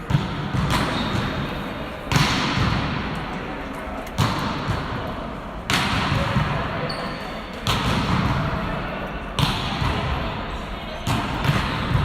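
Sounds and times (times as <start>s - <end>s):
volleyball smacks echoing in gym: 0.0s - 12.0s.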